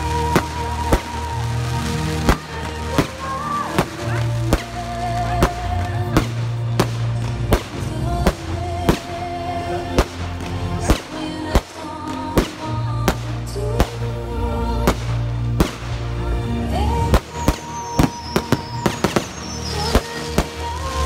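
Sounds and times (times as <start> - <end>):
fireworks bursting with bangs: 0.0 - 16.2, 16.8 - 21.0
loud show music: 0.0 - 21.0.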